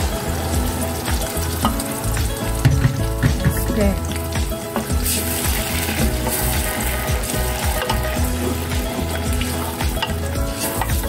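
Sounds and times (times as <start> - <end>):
sauce sizzling in hot oil: 0.0 - 11.0.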